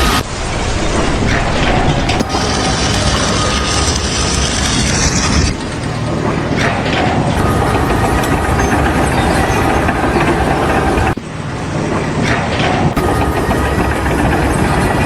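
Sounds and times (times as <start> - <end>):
heavy machine engine idling: 0.0 - 15.0.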